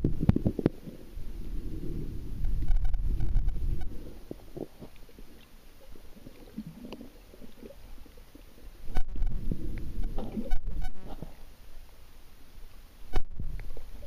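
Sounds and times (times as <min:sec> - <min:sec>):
muffled underwater rumbling wash: 0:00.0 - 0:14.0.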